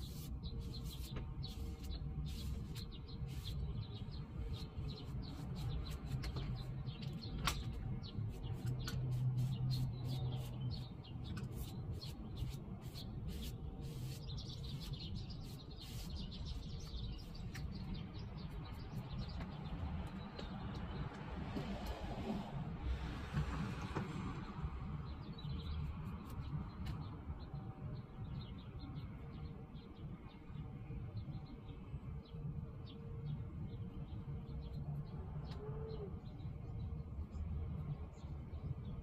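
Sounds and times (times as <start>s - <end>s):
small birds chirping: 0.0s - 21.2s, 25.0s - 39.0s.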